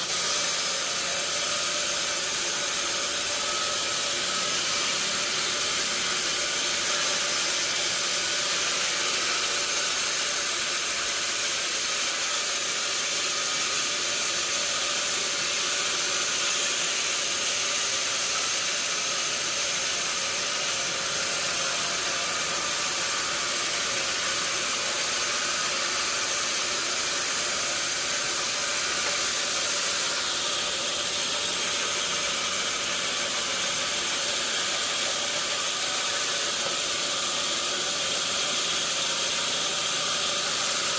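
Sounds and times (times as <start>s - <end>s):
sawmill machinery hissing: 0.0s - 40.9s.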